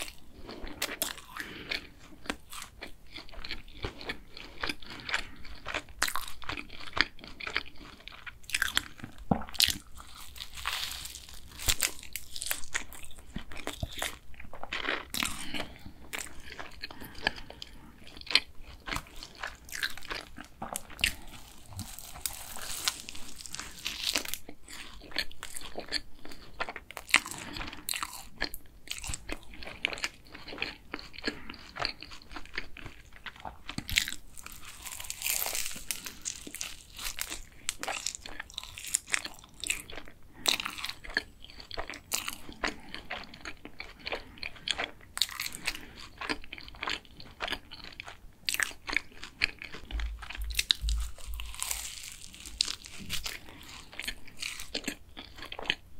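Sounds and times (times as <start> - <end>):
biting and chewing pastry: 0.0 - 55.9.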